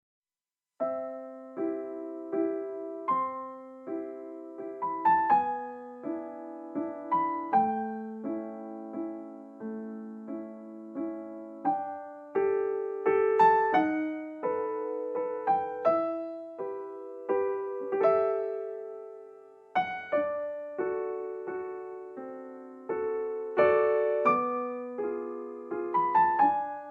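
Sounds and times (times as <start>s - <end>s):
slow gentle piano music: 0.8s - 26.9s.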